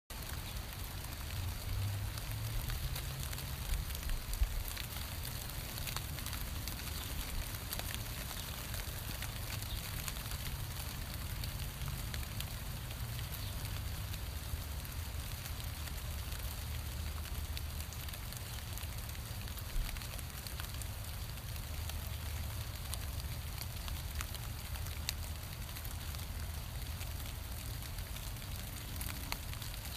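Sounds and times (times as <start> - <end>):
rain falling on leaves: 0.1 - 29.9.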